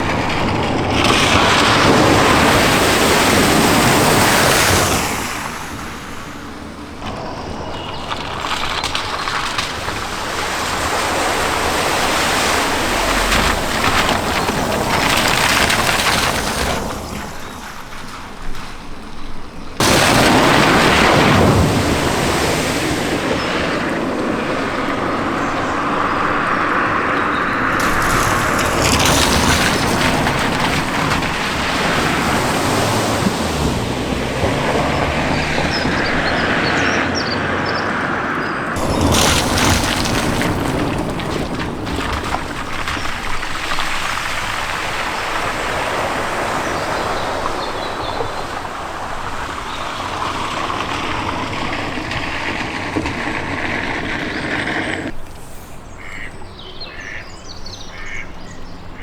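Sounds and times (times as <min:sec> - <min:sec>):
vehicle engines running: 0:00.0 - 0:59.0
water splashing: 0:00.0 - 0:59.0.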